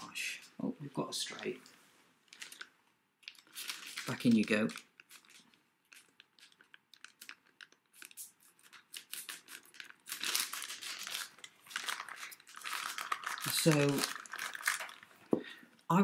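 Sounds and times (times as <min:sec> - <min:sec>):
plastic bag crinkling: 0:02.2 - 0:15.4.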